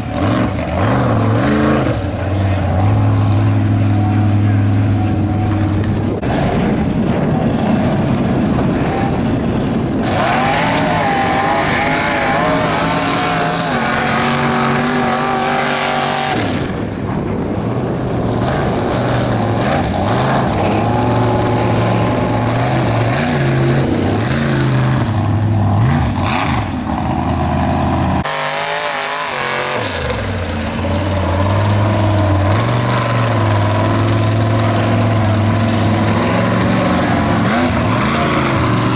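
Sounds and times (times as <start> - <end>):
truck engine revving hard: 0.0 - 38.9.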